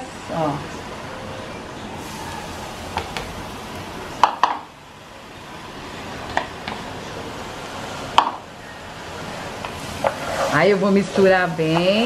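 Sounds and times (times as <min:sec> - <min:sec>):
food frying hiss: 0:02.0 - 0:12.0.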